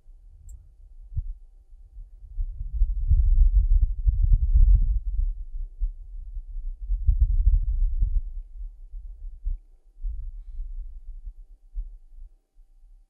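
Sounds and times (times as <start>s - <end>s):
wind rumble in gusts: 0.0s - 12.3s.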